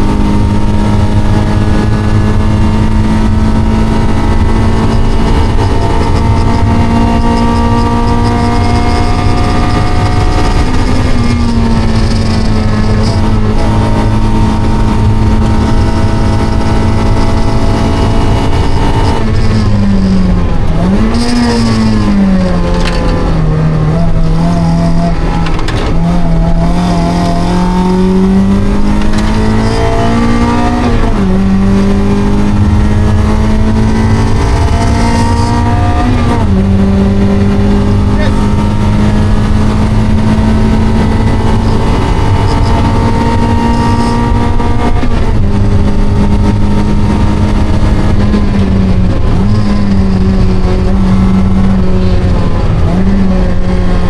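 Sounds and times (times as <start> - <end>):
car engine revving hard: 0.0 - 54.0
wind and road noise: 0.0 - 54.0.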